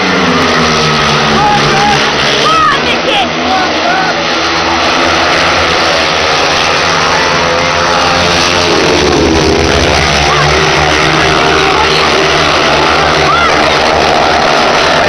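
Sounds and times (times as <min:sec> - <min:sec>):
motorcycle engines racing: 0:00.0 - 0:15.0.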